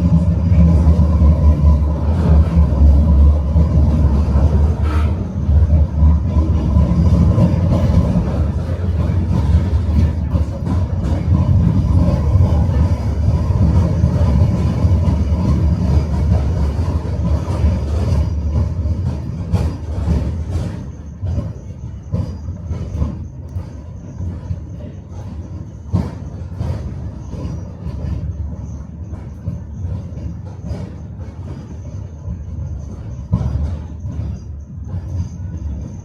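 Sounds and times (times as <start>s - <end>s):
tram rumbling on rails: 0.0s - 36.0s
wheels clacking over rail joints: 0.0s - 36.0s.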